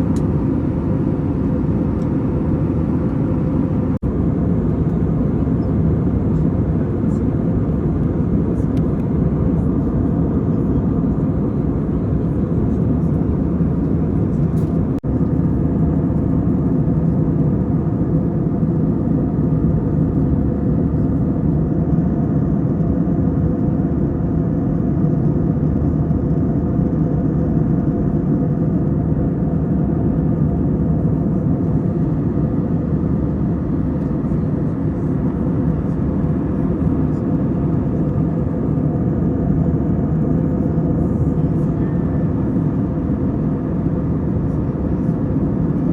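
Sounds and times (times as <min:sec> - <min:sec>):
airliner cabin roar: 0:00.0 - 0:45.9.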